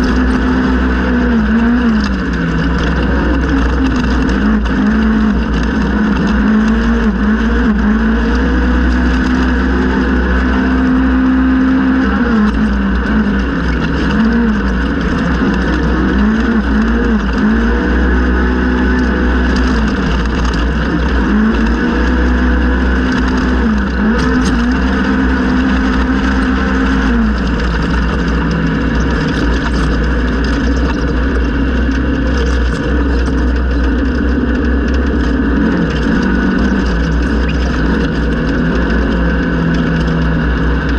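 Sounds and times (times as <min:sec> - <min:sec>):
engine revving at race pace: 0:00.0 - 0:40.9.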